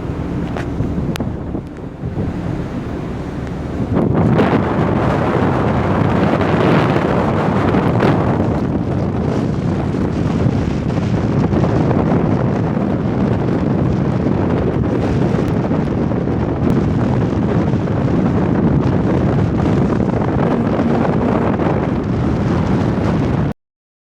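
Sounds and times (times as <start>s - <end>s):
wind buffeting microphone: 0.0s - 23.5s.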